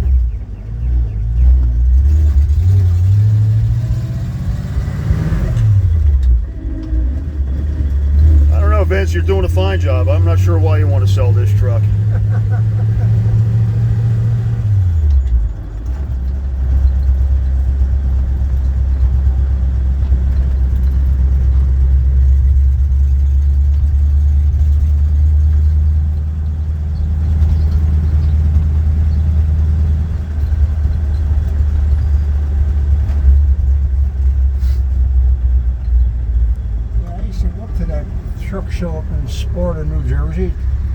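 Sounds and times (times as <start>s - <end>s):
truck engine rumbling: 0.0s - 40.9s.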